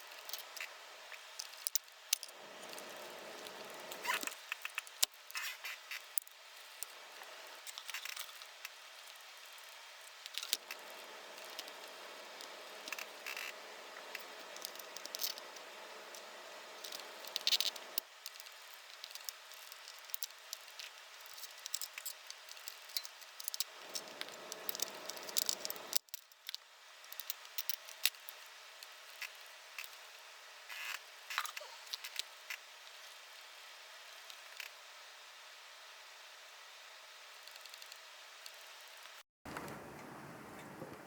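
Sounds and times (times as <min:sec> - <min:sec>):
faint steady hiss: 0:00.0 - 0:41.0.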